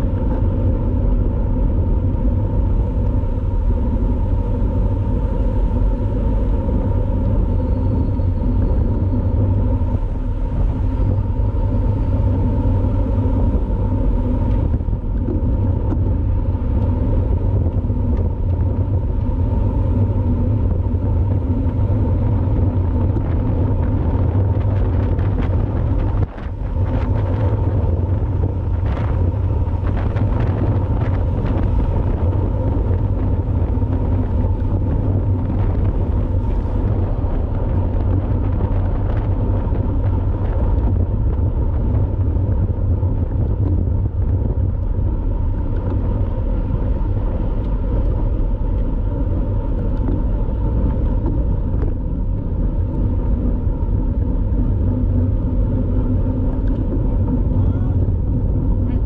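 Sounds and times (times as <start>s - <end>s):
bicycle tyre road noise: 0.0s - 59.0s
wind buffeting microphone: 0.0s - 59.0s.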